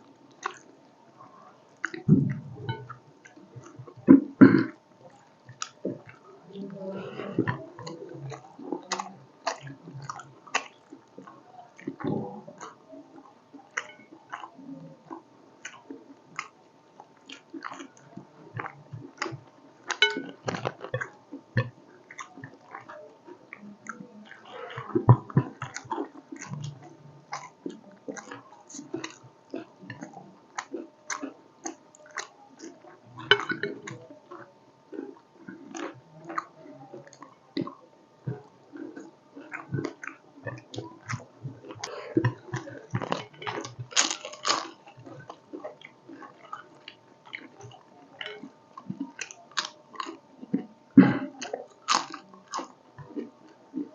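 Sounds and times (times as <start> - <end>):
wet chewing and lip smacks: 0.3 - 0.8, 1.8 - 4.0, 7.5 - 53.9.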